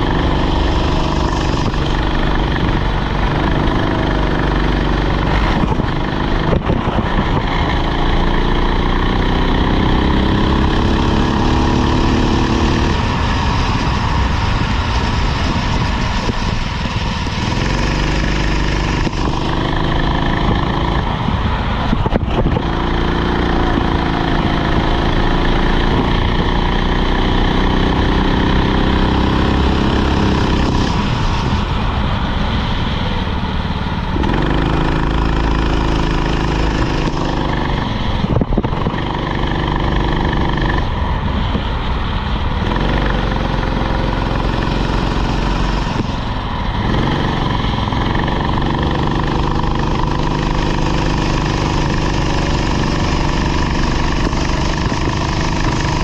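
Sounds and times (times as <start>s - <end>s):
kart engine revving: 0.0s - 56.0s
steady rushing noise: 0.0s - 56.0s.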